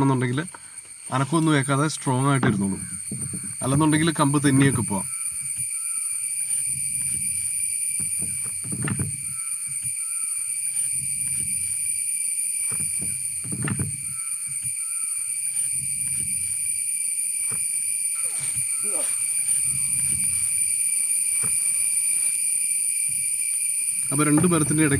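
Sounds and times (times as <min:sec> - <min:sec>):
cicadas droning: 0:00.0 - 0:24.9.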